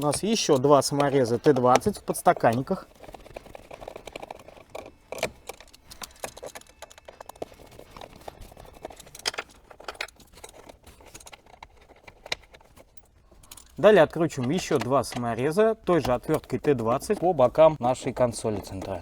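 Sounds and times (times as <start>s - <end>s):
screwdriver clicking on screws: 0.0s - 12.8s, 13.5s - 19.0s.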